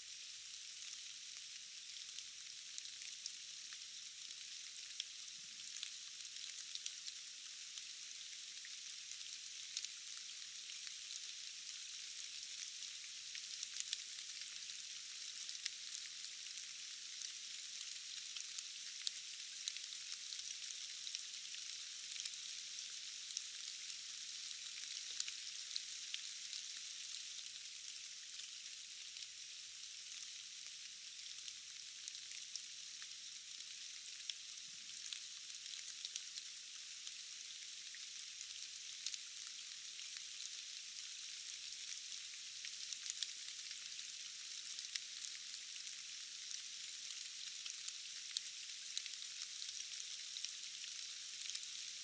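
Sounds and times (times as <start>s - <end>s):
rain on foliage: 0.2s - 52.0s.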